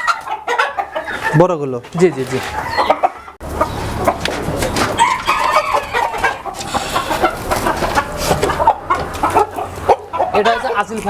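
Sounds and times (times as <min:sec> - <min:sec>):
chickens clucking: 0:00.0 - 0:11.0
roosters crowing: 0:02.0 - 0:11.0.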